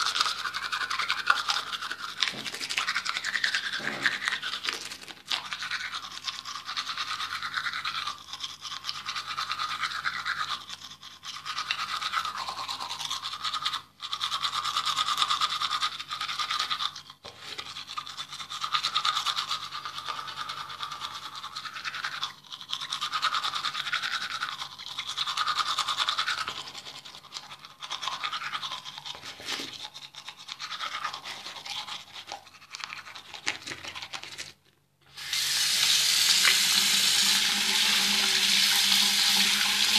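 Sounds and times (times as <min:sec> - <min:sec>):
toothbrush scrubbing teeth: 0:00.0 - 0:39.9.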